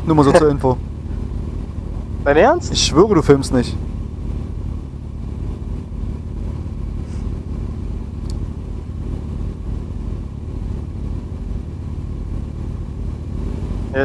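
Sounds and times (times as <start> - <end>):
motorcycle engine deep rumble: 0.0 - 14.0.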